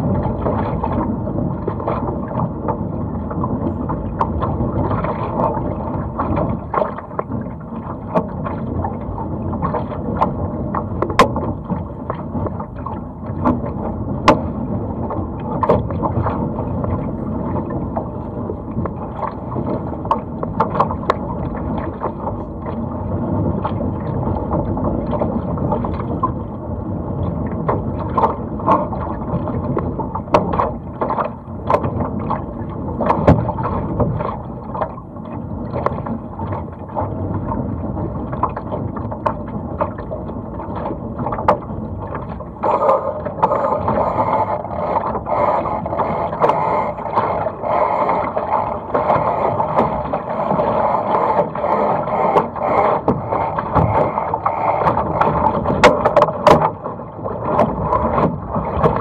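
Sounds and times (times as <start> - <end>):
rush of water: 0.0 - 59.0
splashes and knocks against hull: 0.0 - 59.0
wind: 0.0 - 59.0.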